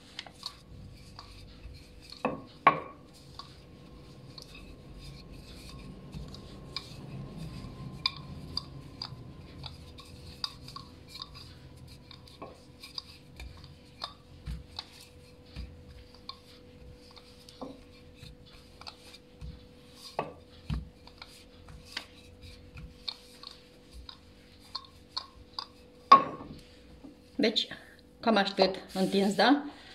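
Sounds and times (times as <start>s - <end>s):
rolling pin rumbling on dough: 0.0s - 27.2s.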